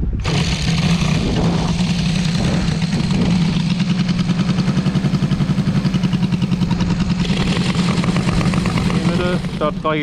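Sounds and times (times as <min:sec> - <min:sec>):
model aircraft engine idling: 0:00.1 - 0:10.0.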